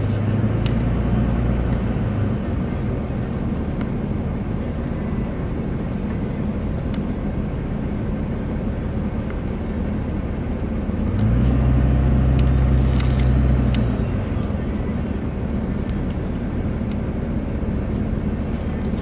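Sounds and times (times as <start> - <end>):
car cabin low hum: 0.0 - 19.0.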